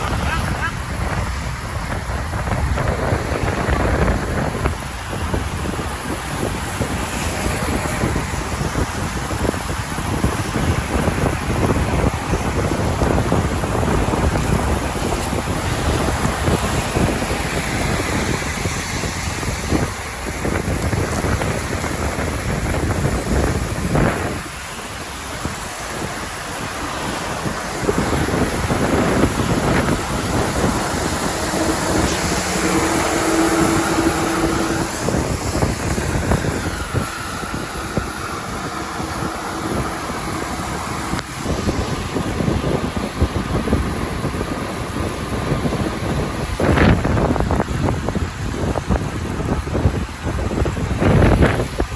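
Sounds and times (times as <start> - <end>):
rain hissing: 0.0 - 51.9
wind buffeting microphone: 0.0 - 51.9.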